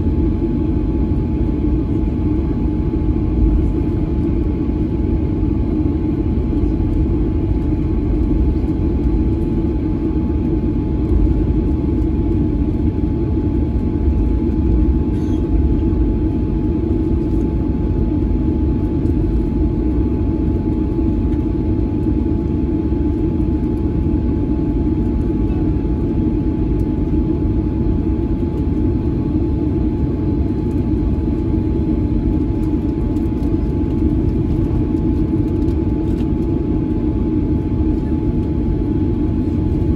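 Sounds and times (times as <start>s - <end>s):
jet engines idling rumble: 0.0s - 39.9s.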